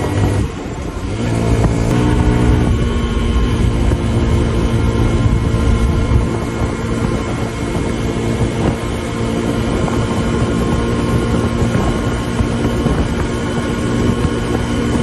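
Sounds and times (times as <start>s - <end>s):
motorcycle engine running: 0.0s - 15.0s
wind and road rumble: 0.0s - 15.0s.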